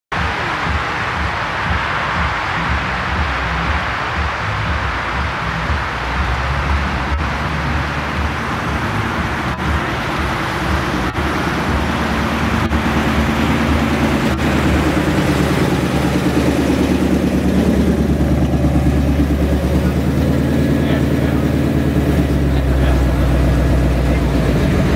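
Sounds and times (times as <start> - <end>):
car engine at low revs: 0.2 - 24.9.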